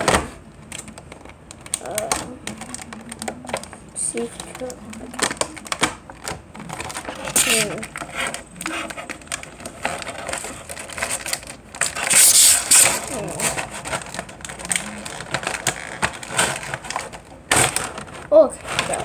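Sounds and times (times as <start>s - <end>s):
plastic packaging crinkling: 0.3s - 19.0s.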